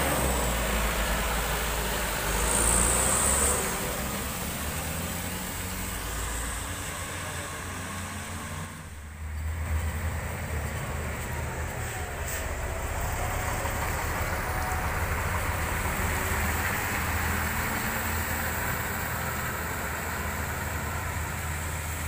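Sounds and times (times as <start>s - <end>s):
diesel truck engine drone: 0.0s - 22.0s
tyres hissing on wet road: 0.0s - 22.0s.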